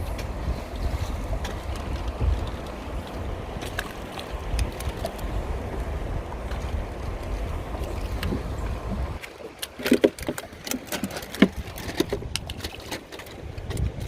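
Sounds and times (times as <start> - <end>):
wind rumble on microphone: 0.0 - 9.2, 10.0 - 14.0.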